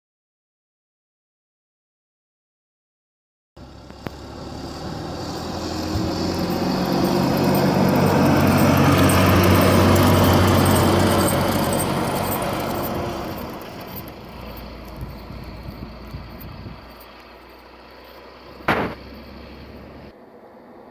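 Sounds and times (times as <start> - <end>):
diesel truck driving past: 3.6 - 20.9.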